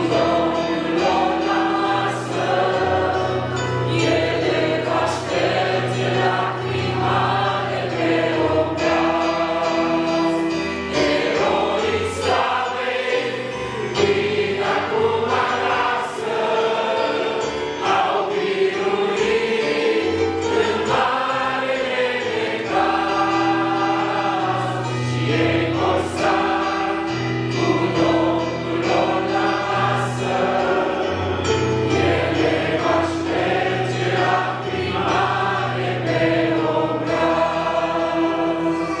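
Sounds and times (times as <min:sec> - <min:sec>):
group singing in harmony: 0:00.0 - 0:39.0.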